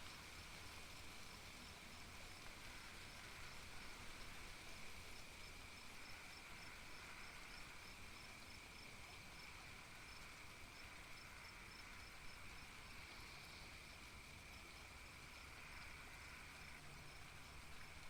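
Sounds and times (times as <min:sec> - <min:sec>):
crickets chirping: 0:00.0 - 0:18.0
faint steady hiss: 0:00.0 - 0:18.0.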